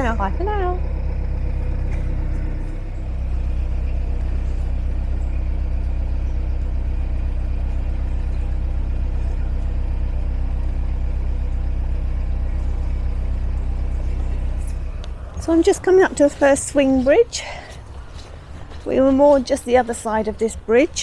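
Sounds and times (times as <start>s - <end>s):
boat diesel engine droning: 0.0s - 21.0s.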